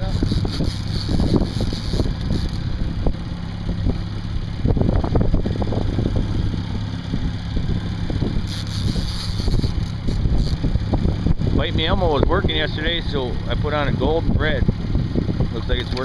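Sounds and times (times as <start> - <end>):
boat motor humming: 0.0 - 16.0
wind buffeting microphone: 0.0 - 16.0.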